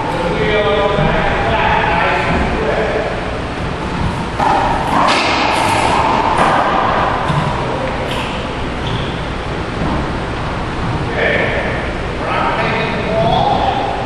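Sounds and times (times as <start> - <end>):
racquetball hits echoing: 0.0 - 12.0.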